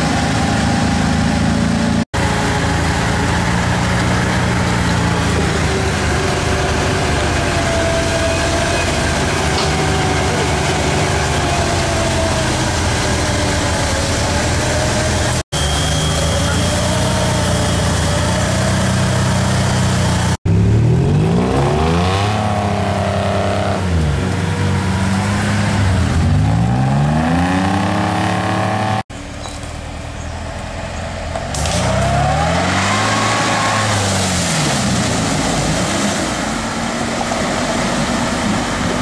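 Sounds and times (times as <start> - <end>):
off-road engines revving: 0.0 - 39.0.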